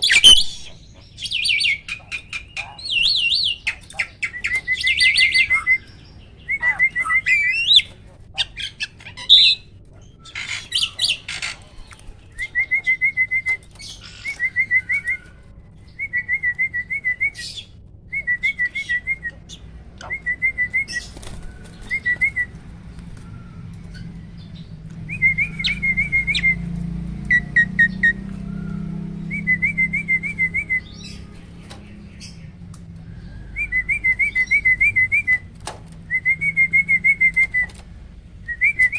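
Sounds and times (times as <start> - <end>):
harsh chattering bird calls: 0.0 - 17.8, 18.4 - 38.9
starling trilling song: 0.0 - 32.5.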